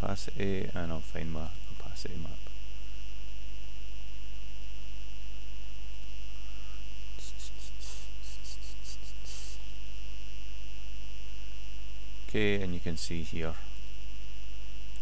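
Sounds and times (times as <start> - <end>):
electrical hum with high whine: 0.0 - 15.0.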